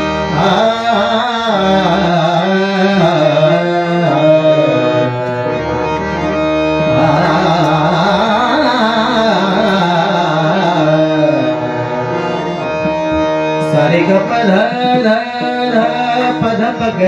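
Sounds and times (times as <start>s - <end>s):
held accompanying drone notes: 0.0s - 17.0s
person singing wordless alaap: 0.2s - 17.0s.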